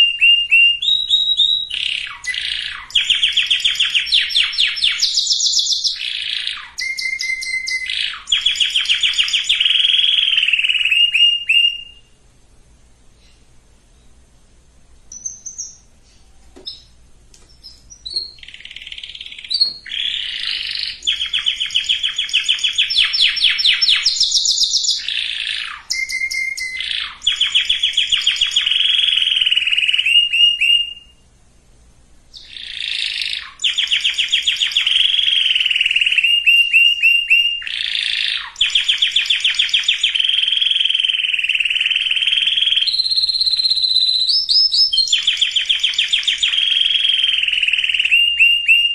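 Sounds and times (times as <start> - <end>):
canary singing trills: 0.0 - 12.2, 15.1 - 31.3, 32.3 - 48.9.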